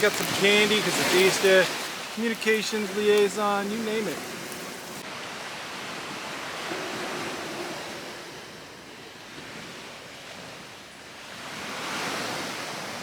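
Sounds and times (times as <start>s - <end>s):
ocean surf washing onto beach: 0.0s - 13.0s.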